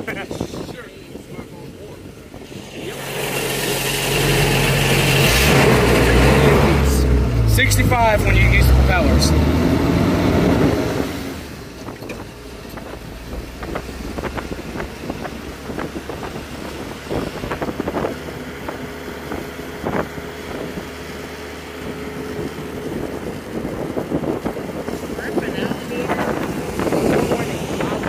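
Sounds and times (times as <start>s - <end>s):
wind buffeting microphone: 0.0s - 3.8s, 8.2s - 28.0s
car engine running: 0.0s - 28.0s.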